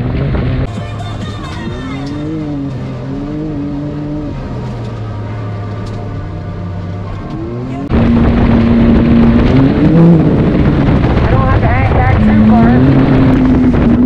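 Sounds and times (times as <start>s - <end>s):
atv engine running: 0.0s - 14.0s
loud rough side-by-side engine: 0.0s - 14.0s.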